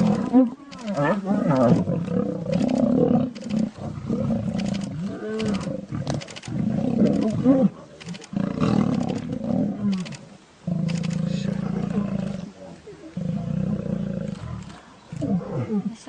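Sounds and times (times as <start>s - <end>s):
lions roaring and growling: 0.0s - 15.9s.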